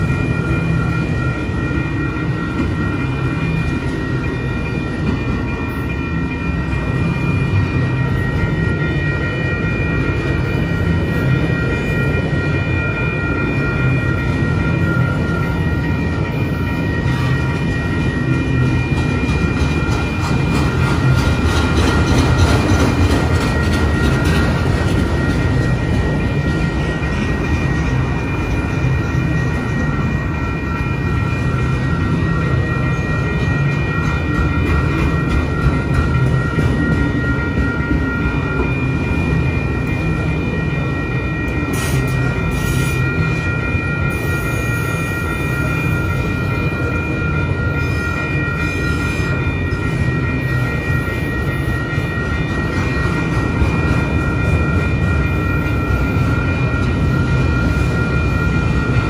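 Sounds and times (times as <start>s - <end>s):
crossing warning bell ringing: 0.0s - 59.0s
wheels rumbling on rail: 0.0s - 59.0s.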